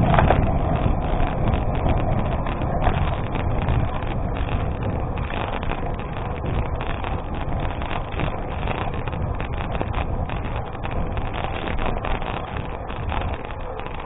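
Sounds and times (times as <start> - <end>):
tyres rolling on gravel: 0.0 - 14.0
wind buffeting microphone: 0.0 - 14.0.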